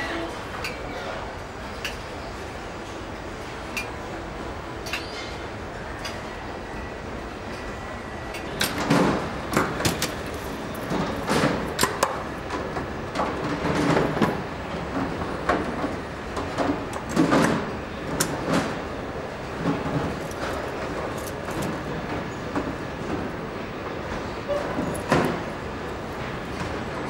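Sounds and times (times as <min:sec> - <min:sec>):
steady factory hum: 0:00.0 - 0:27.0.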